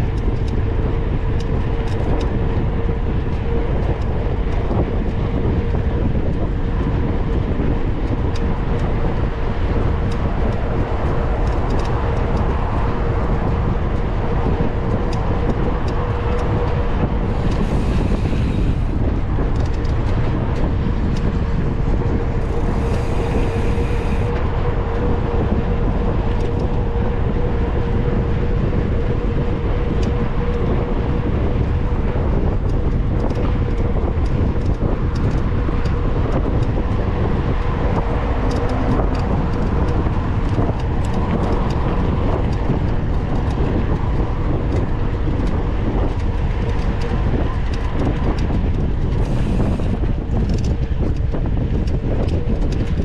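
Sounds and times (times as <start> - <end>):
bike clicks and rattles: 0.0 - 53.0
steady hum: 0.0 - 53.0
tyres rolling on trail: 0.0 - 53.0
wind buffeting microphone: 0.0 - 53.0.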